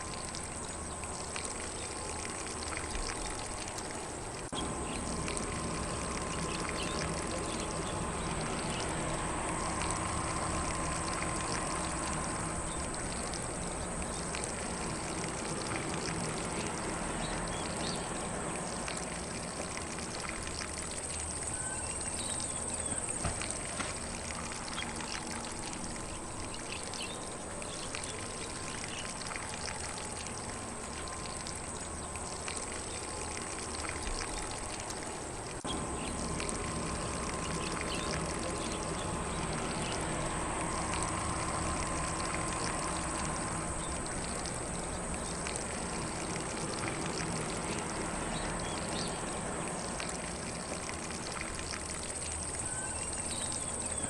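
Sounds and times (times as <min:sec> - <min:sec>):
lawn sprinkler spraying water: 0:00.0 - 0:54.0.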